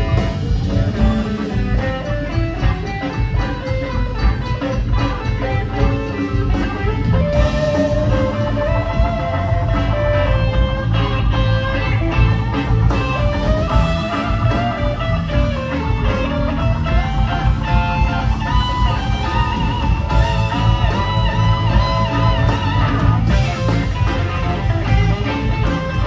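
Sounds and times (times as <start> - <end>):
bass: 0.0 - 26.0
drums: 0.0 - 26.0
electric guitar lead: 0.0 - 26.0
keyboards: 0.0 - 26.0.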